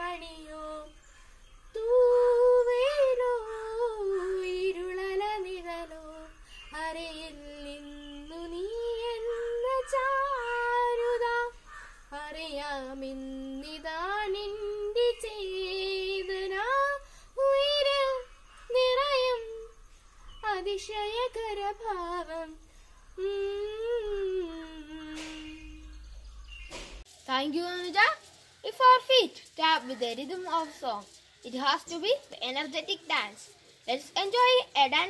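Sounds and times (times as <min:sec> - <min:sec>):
girl singing unaccompanied: 0:00.0 - 0:26.6, 0:27.3 - 0:35.0.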